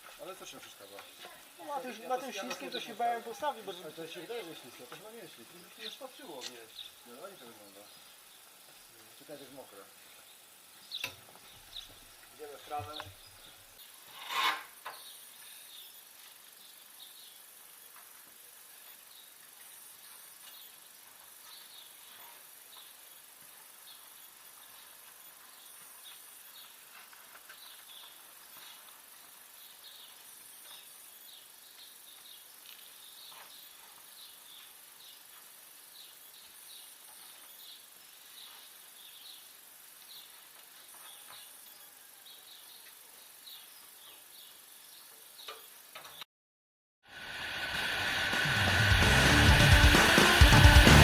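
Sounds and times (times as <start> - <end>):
soft steady hiss: 0.0 - 46.3.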